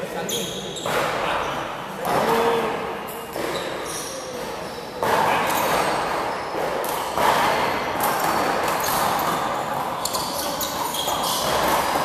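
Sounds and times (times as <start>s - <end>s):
hubbub in a large hall: 0.0s - 12.0s
handball smacking wall and floor: 0.8s - 1.4s, 2.0s - 12.0s.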